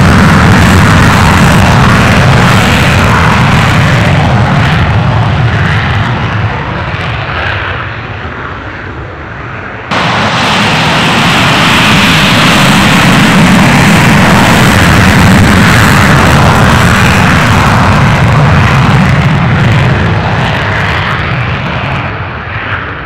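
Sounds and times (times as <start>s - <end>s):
jet engine afterburner roar: 0.0s - 23.0s.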